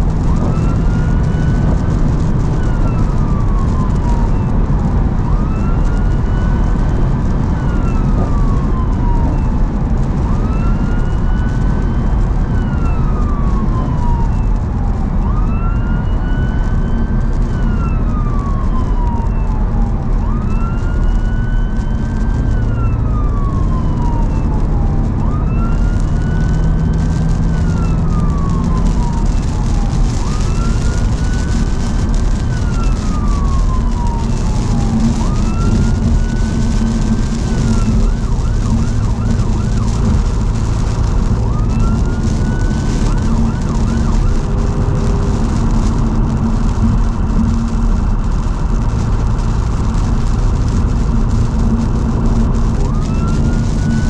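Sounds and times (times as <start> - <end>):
car engine: 0.0 - 54.0
siren wailing: 0.0 - 54.0
siren yelp: 0.0 - 54.0
tyres on wet road: 0.0 - 54.0.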